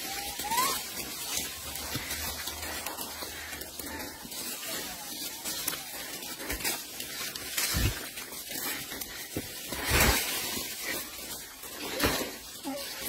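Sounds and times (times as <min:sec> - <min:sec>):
monkeys chewing: 0:00.0 - 0:13.0
pea pods crackling: 0:00.0 - 0:13.0.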